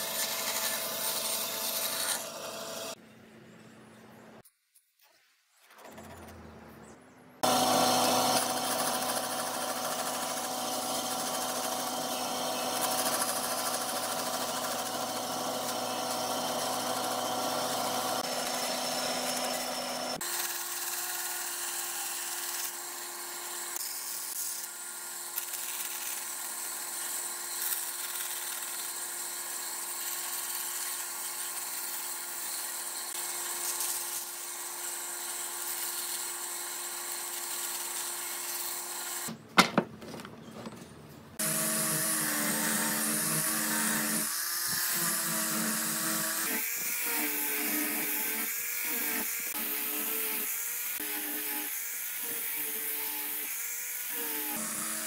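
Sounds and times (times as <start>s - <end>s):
bandsaw cutting wood: 0.0s - 3.0s, 7.4s - 39.4s, 41.4s - 55.0s.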